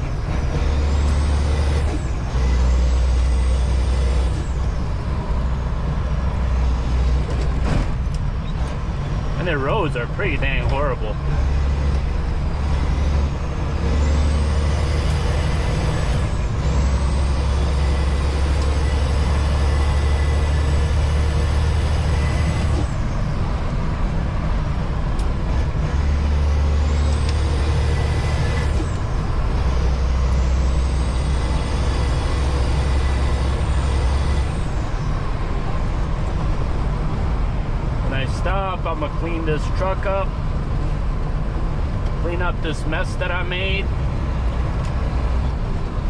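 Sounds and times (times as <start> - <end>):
truck diesel engine pulling: 0.0 - 46.0.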